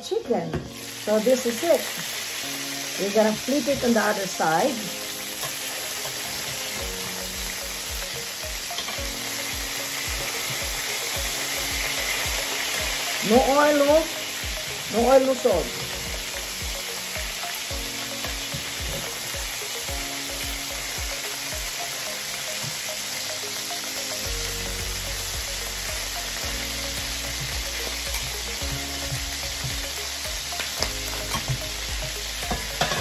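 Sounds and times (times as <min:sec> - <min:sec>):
meat sizzling in a skillet: 0:00.7 - 0:33.0.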